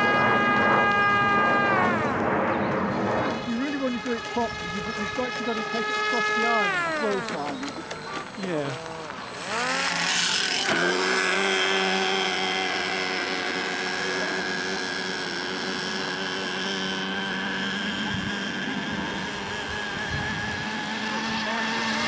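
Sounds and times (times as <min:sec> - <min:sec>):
model boat motor revving: 0:00.0 - 0:22.0.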